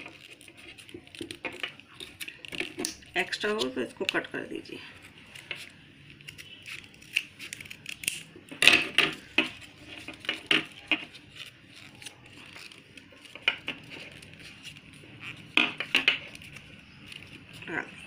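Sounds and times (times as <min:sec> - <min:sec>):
paper being folded and creased: 0:00.0 - 0:04.3, 0:04.9 - 0:18.0
scissors snipping paper: 0:00.0 - 0:04.3, 0:05.0 - 0:18.0.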